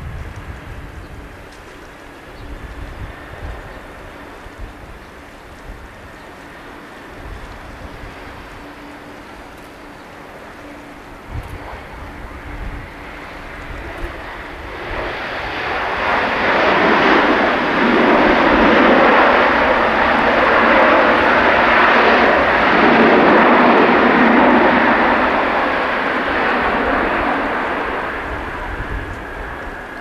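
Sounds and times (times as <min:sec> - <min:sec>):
jet airliner landing: 0:00.0 - 0:30.0.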